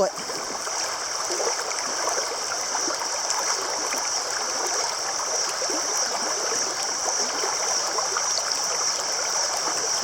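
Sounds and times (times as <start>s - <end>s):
river water flowing over rocks: 0.0s - 10.0s.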